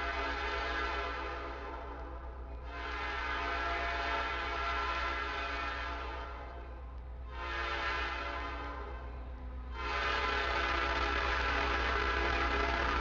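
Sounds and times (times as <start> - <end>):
train horn blasts: 0.0 - 13.0.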